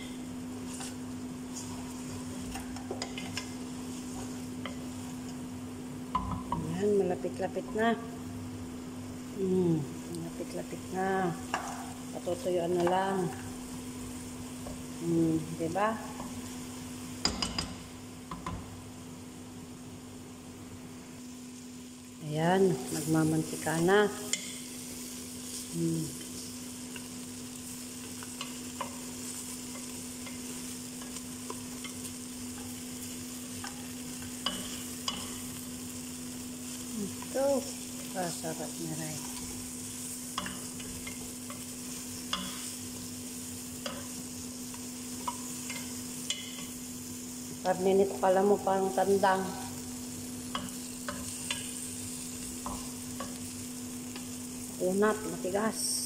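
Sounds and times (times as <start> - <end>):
fish sizzling in pot: 0.0 - 56.0.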